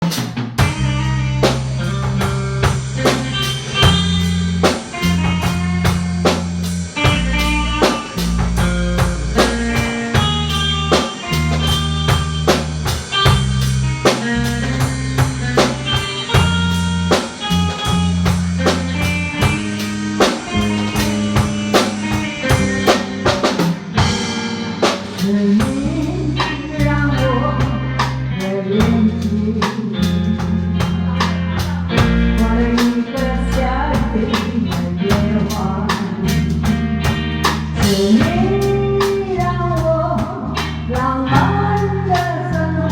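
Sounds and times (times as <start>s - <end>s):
drum kit beat with rimshots: 0.0s - 42.9s
electric bass: 0.0s - 42.9s
lead guitar melody: 0.6s - 42.9s.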